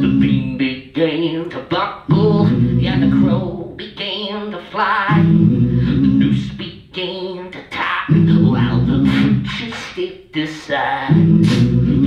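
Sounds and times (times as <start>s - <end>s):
low vocal bass pattern: 0.0s - 4.2s, 4.9s - 10.1s, 10.8s - 12.0s
man beatboxing and singing: 0.0s - 12.0s
wavering higher vocal lines: 0.0s - 12.0s.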